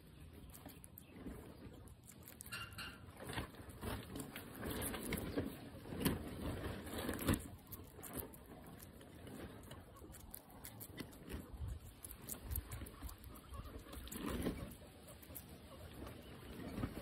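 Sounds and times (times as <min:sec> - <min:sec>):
guinea pig chewing clicks: 0:00.3 - 0:17.0.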